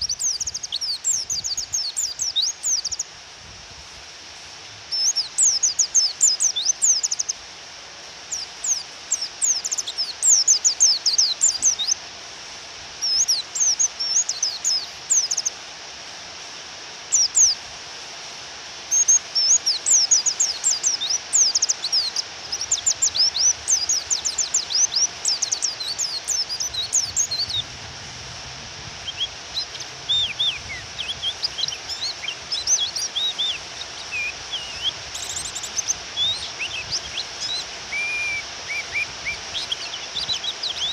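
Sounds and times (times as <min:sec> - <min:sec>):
bird high rapid chirps: 0:00.0 - 0:03.0, 0:04.9 - 0:07.4, 0:08.3 - 0:12.0, 0:13.0 - 0:15.5, 0:17.1 - 0:17.6, 0:18.9 - 0:27.6, 0:29.0 - 0:40.9
rain hiss: 0:00.0 - 0:40.9.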